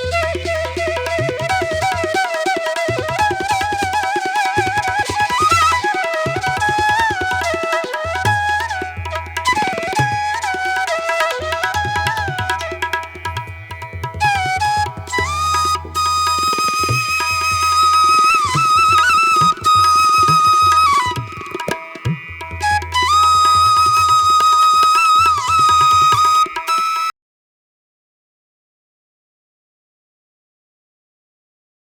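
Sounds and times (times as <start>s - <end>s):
flute-like melody: 0.0s - 27.1s.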